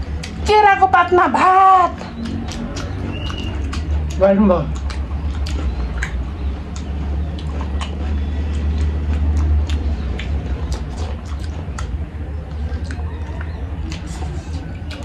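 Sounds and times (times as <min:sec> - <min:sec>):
mouth clicks and smacks: 0:00.0 - 0:00.7, 0:01.4 - 0:15.0
steady low hum: 0:00.0 - 0:15.0
chewing: 0:01.9 - 0:15.0.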